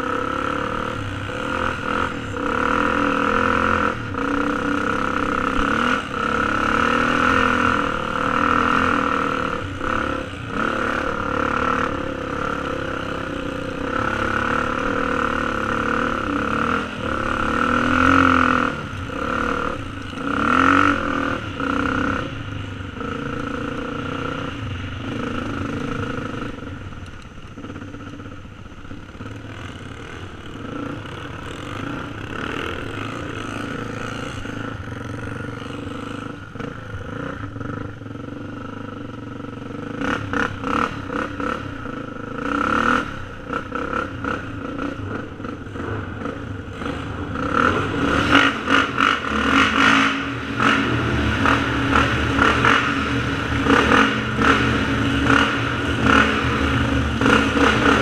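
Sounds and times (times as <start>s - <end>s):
dirt bike engine: 0.0s - 58.0s.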